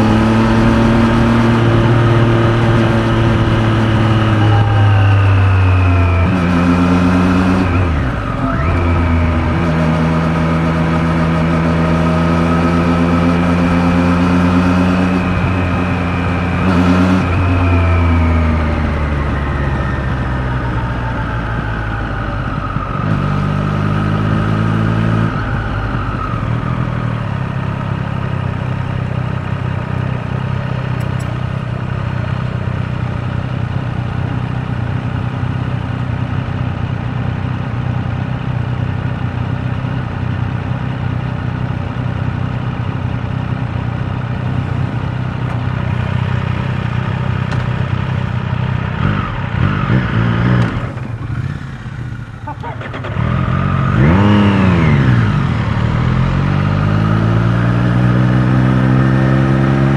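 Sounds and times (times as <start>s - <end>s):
motorcycle engine revving and idling: 0.0s - 59.9s.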